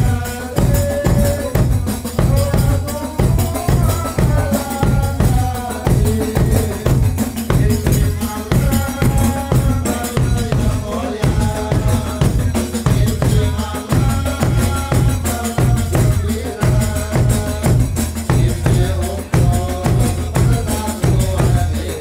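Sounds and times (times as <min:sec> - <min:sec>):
drums beating steady rhythm: 0:00.0 - 0:22.0.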